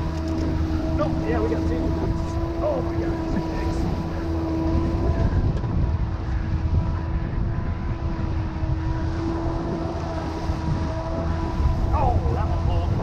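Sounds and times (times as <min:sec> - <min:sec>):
outboard motors rumbling: 0:00.0 - 0:13.0
water rushing in boat wake: 0:00.0 - 0:13.0.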